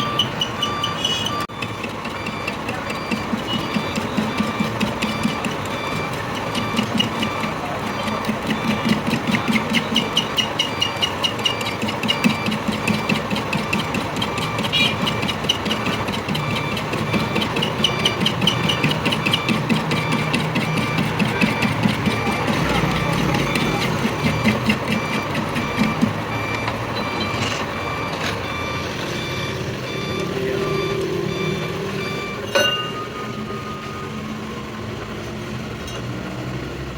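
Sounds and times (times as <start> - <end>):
lathe rhythmic clatter: 0.0 - 33.5.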